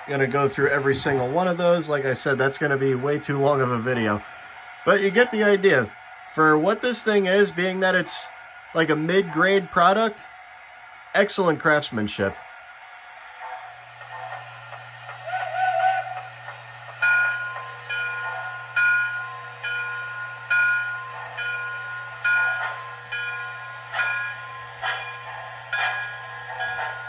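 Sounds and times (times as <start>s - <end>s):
rhythmic steam chuffs: 0.0s - 27.0s
steady low hum: 0.0s - 27.0s.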